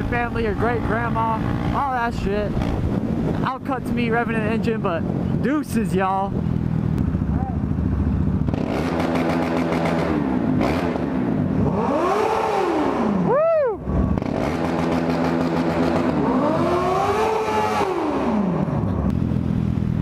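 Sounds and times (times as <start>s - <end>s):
motorcycle engine revving: 0.0s - 5.6s, 6.3s - 20.0s.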